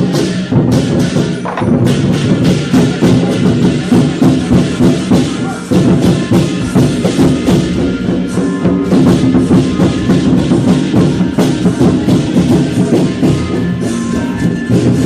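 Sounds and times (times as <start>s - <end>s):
percussion steady beat: 0.0s - 15.0s
sustained pitched melody: 0.0s - 15.0s.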